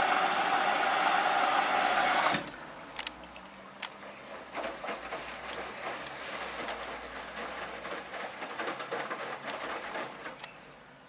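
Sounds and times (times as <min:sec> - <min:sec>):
washing machine drum churning: 0:00.0 - 0:02.8, 0:04.2 - 0:10.8.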